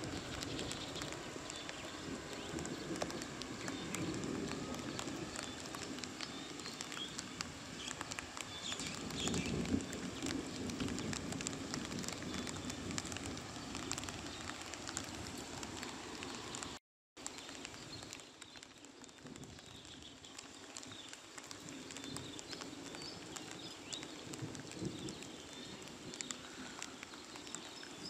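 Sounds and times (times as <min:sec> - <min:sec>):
light rain pattering: 0:00.0 - 0:28.0.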